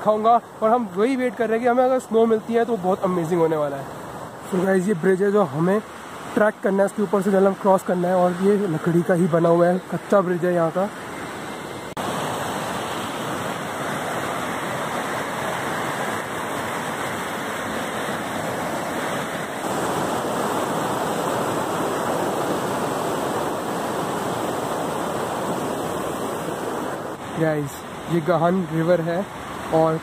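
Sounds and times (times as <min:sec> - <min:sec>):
river rushing over boulders: 0:00.0 - 0:30.0.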